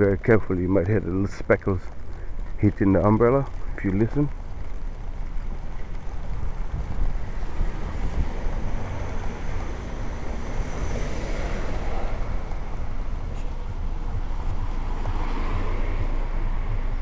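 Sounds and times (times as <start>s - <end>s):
freezing rain hitting umbrella: 0.0s - 17.0s
wind rumble on microphone: 0.0s - 17.0s.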